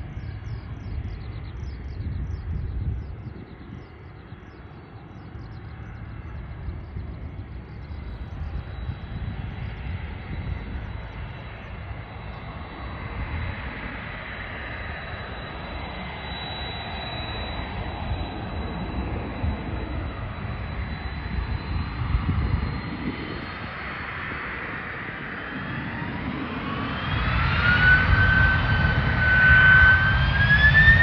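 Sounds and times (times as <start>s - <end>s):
jet engine high whine: 0.0s - 31.0s
jet engines rumbling: 0.0s - 31.0s.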